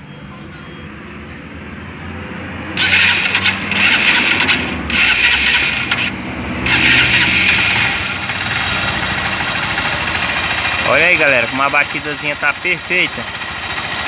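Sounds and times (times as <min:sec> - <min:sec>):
motorcycle engine starting and revving: 0:02.7 - 0:14.0.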